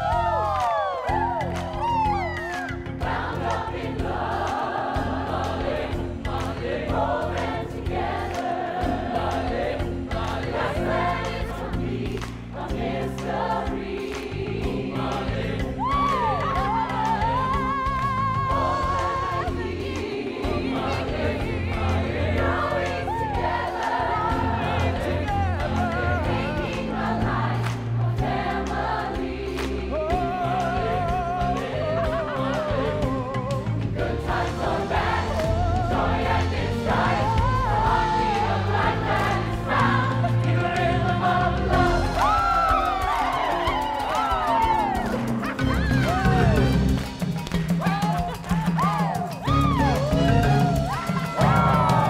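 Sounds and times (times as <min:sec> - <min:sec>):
choir and band playing: 0:00.0 - 0:52.0
lead voice singing with vibrato: 0:02.1 - 0:29.2, 0:29.8 - 0:46.7.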